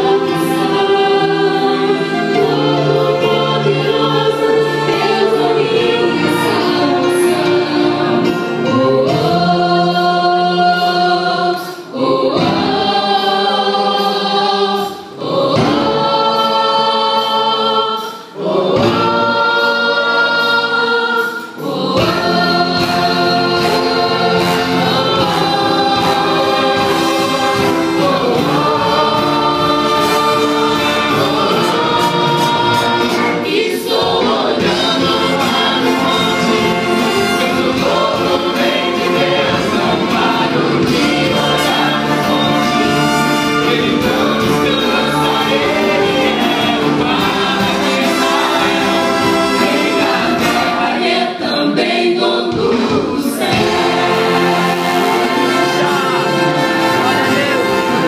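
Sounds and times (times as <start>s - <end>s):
strings and brass orchestra: 0.0s - 58.0s
women singing gospel chorus: 0.0s - 58.0s.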